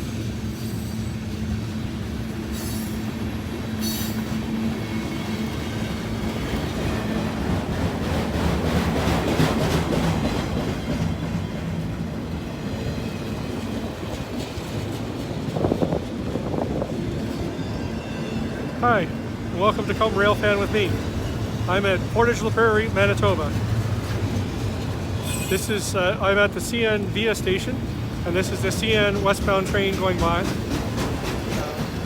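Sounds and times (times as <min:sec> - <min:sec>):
steel wheels clattering on rails: 0:00.0 - 0:32.0
train engine drone: 0:00.0 - 0:32.0.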